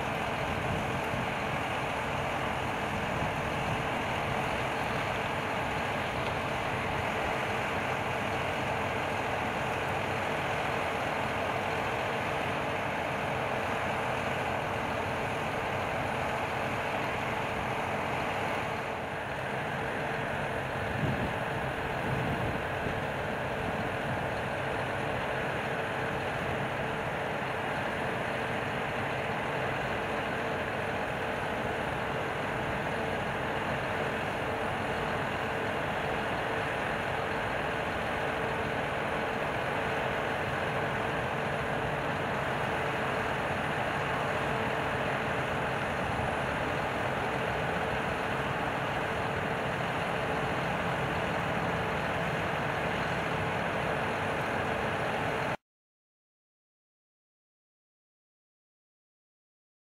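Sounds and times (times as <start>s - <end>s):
combine harvester droning: 0.0s - 55.6s.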